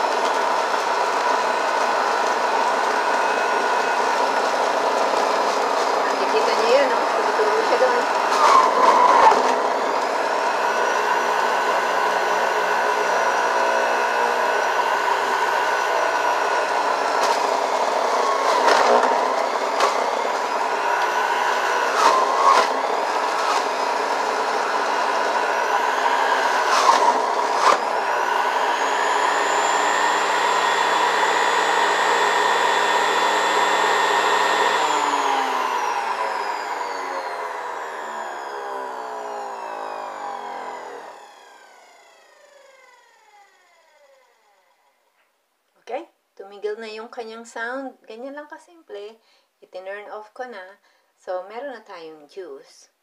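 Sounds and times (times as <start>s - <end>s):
juicer motor whirring: 0.0s - 45.0s.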